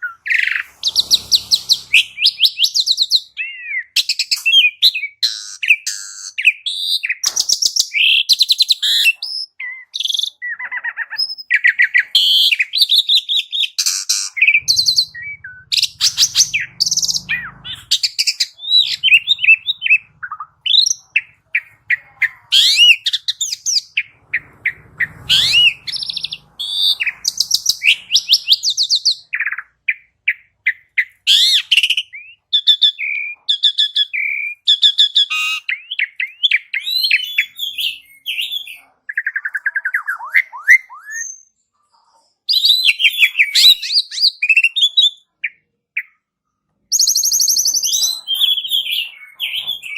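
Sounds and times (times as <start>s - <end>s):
starling singing: 0.0s - 41.4s, 47.0s - 49.9s.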